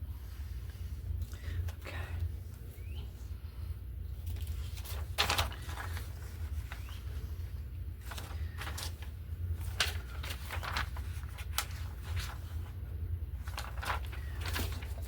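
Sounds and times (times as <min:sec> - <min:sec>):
steady low hum: 0:00.0 - 0:15.0
paper rustling: 0:00.2 - 0:15.0.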